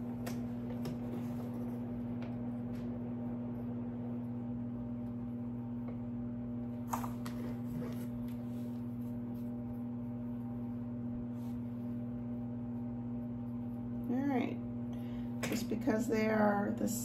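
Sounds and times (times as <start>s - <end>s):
steady low room hum: 0.0s - 17.0s.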